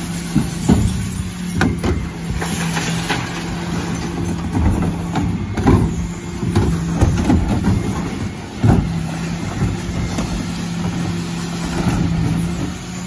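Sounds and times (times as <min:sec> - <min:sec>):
refuse lorry engine humming: 0:00.0 - 0:13.0
bin lifter knocks and clatters: 0:00.2 - 0:12.7.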